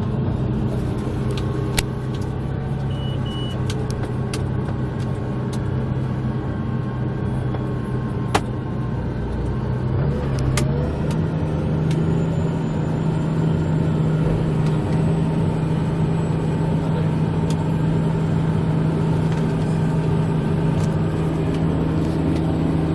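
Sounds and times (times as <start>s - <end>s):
tractor diesel engine running: 0.0s - 22.9s.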